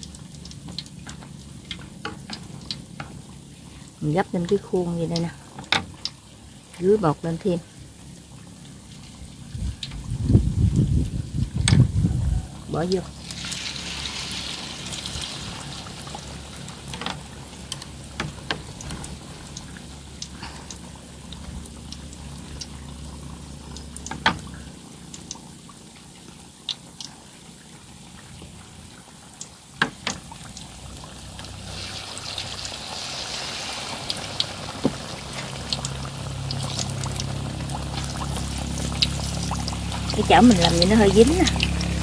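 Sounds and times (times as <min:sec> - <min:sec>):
fritters sizzling in hot oil: 0:00.0 - 0:42.0.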